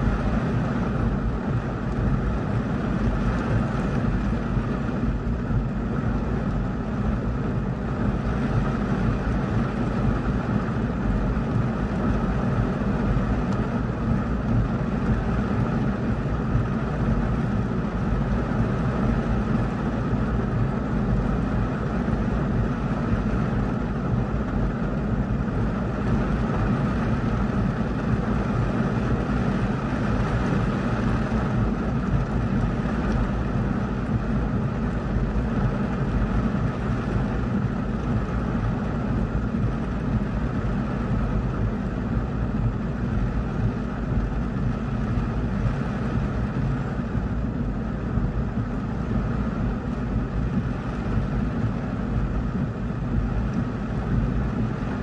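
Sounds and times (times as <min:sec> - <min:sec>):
heavy rain on car roof: 0:00.0 - 0:55.0.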